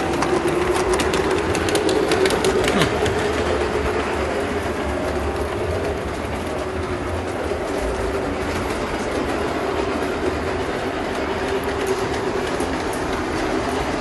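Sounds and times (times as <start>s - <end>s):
model train motor hum: 0.0s - 14.0s
wheels clicking over rail joints: 0.0s - 14.0s.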